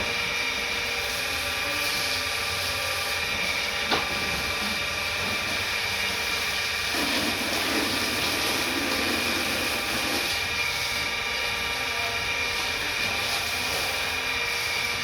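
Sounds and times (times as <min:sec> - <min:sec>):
machinery hum with high whine: 0:00.0 - 0:15.0.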